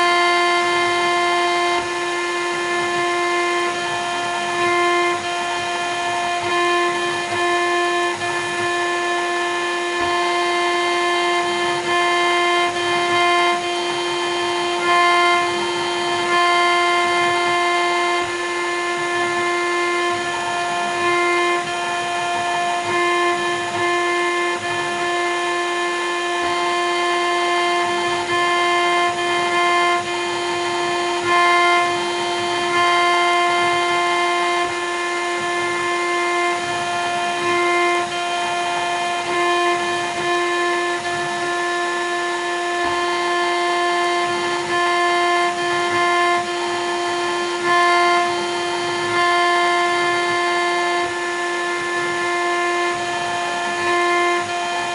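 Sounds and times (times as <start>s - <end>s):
router spindle whining: 0.0s - 54.9s.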